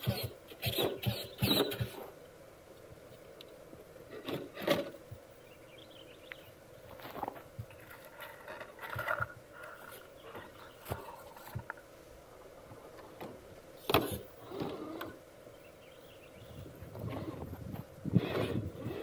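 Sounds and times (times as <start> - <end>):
faint motor and gear whine: 0.0 - 19.0.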